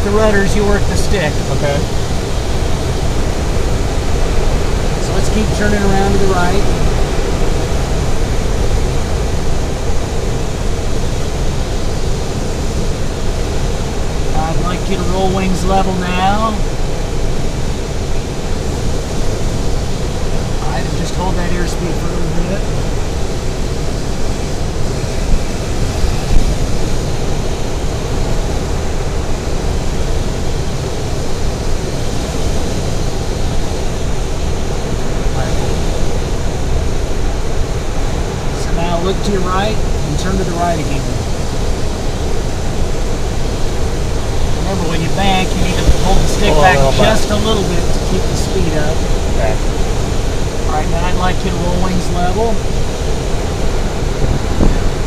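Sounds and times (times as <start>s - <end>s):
air rushing over glider canopy: 0.0s - 55.0s.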